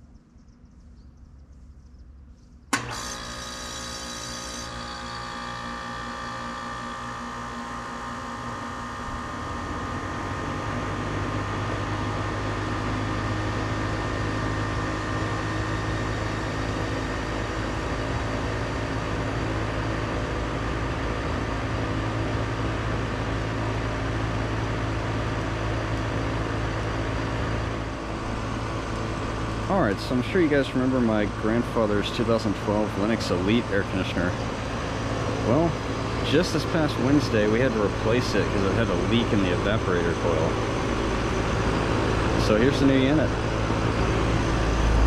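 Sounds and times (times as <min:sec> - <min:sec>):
compressor humming: 0:00.0 - 0:45.0
condenser fan whirring: 0:01.2 - 0:45.0.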